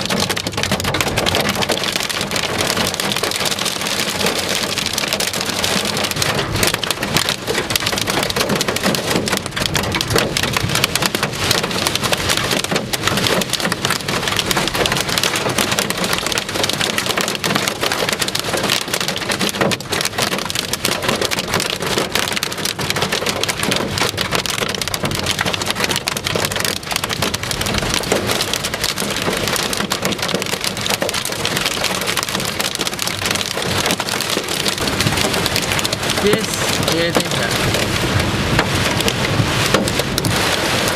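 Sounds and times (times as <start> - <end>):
heavy rain and hail pelting: 0.0 - 40.9.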